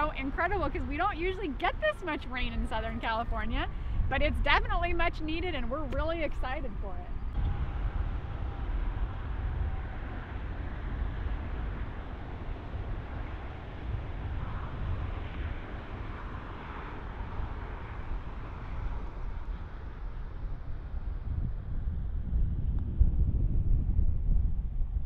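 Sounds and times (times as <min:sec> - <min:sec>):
distant road traffic: 0:00.0 - 0:22.3
wind rumbling on microphone: 0:00.0 - 0:25.0.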